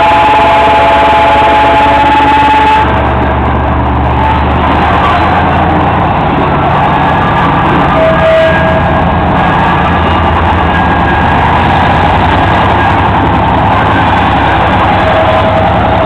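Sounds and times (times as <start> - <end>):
diesel locomotive engine running: 0.0 - 16.0
short steady whine: 0.0 - 16.0.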